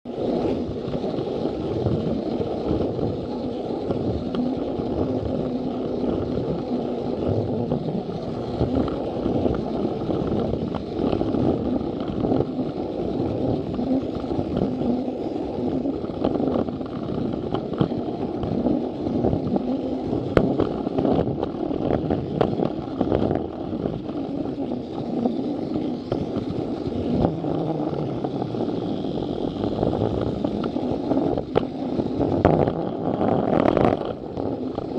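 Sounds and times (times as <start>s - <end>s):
toy train motor whirring: 0.1s - 34.9s
wheels clicking over track joints: 0.1s - 34.9s.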